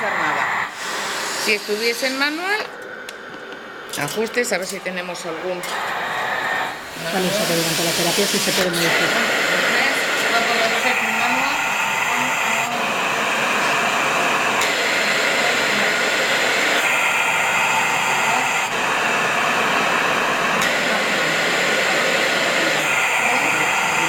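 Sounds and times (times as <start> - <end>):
machine blower hiss: 0.0 - 24.0.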